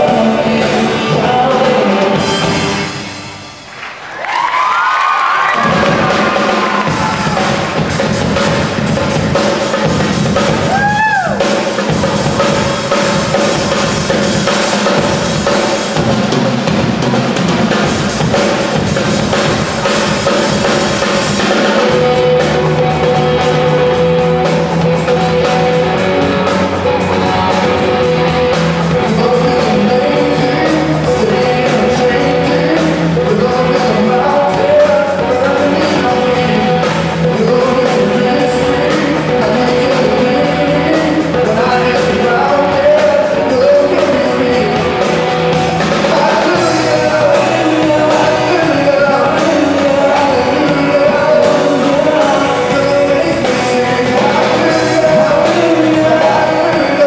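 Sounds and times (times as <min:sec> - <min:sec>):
person singing: 0:00.0 - 0:03.2, 0:05.4 - 0:15.8, 0:21.4 - 0:57.0
bass line: 0:00.0 - 0:57.0
rock band playing: 0:00.0 - 0:57.0.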